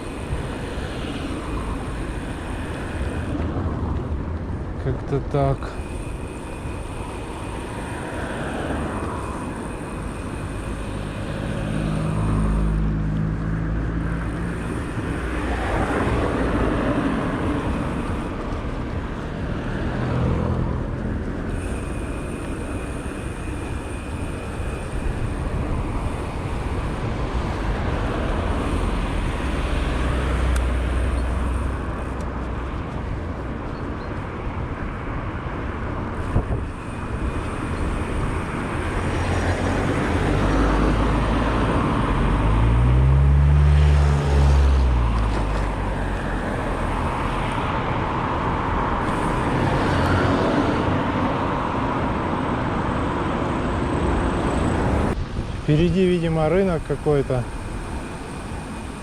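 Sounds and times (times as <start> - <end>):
wind rumbling on microphone: 0.0 - 56.7
road traffic: 0.0 - 59.0
vehicle passing close: 5.0 - 33.4, 36.2 - 59.0.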